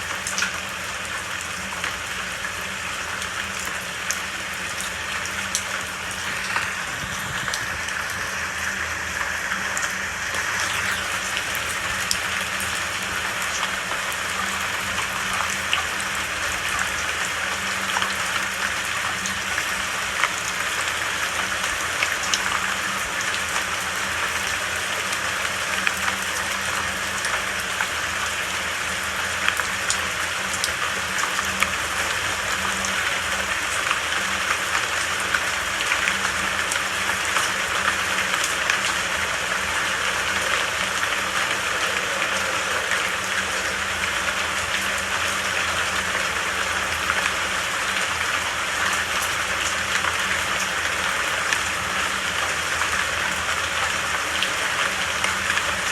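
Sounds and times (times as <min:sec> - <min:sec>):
rain falling: 0:00.0 - 0:55.9
raindrops pattering: 0:00.0 - 0:55.9.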